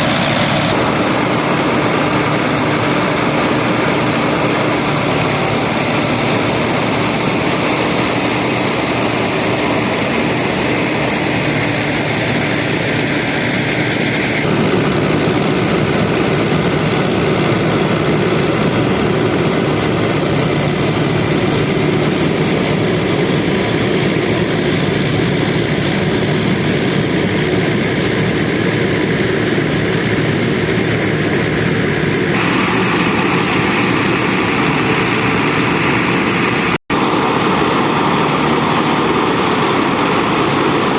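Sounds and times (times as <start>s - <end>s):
tractor diesel engine: 0.0s - 40.9s.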